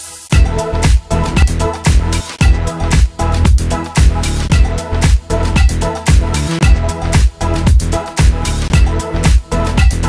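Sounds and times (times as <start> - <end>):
dance music with steady beat: 0.0 - 10.0.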